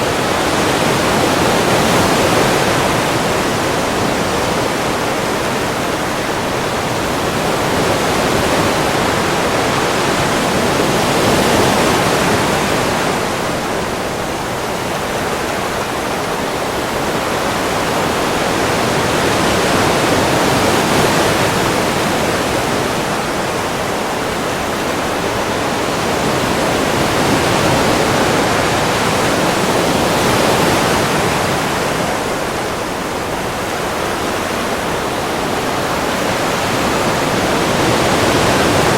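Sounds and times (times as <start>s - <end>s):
ocean waves washing: 0.0s - 38.9s.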